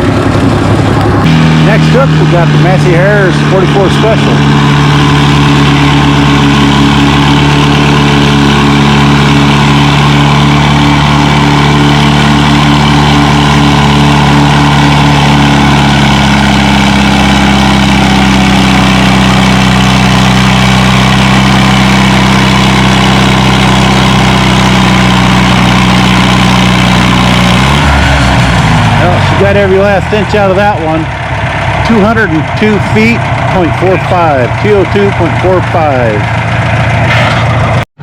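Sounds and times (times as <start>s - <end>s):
tractor engine running under load: 0.0s - 38.0s.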